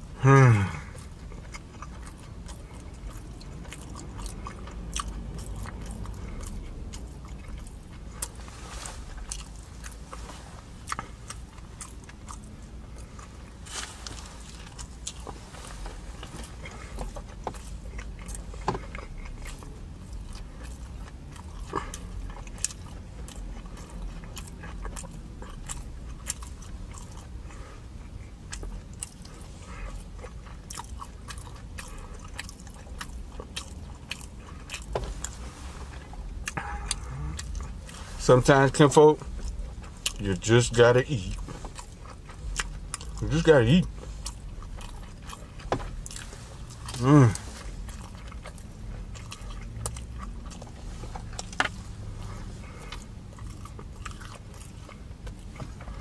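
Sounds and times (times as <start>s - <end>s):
person biting and chewing: 0.5s - 27.5s, 28.4s - 38.0s, 41.2s - 56.0s.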